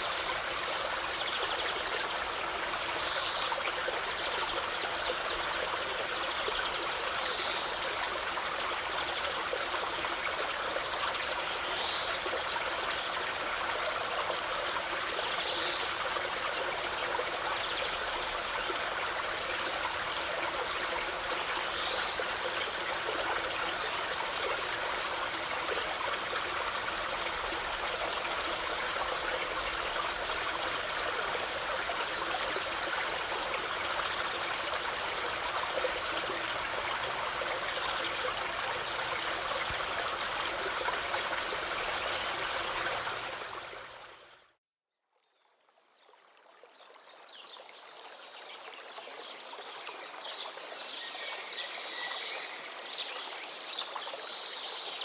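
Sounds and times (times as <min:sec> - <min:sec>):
river water flowing: 0:00.0 - 0:44.4
quiet flowing water: 0:00.0 - 0:55.0.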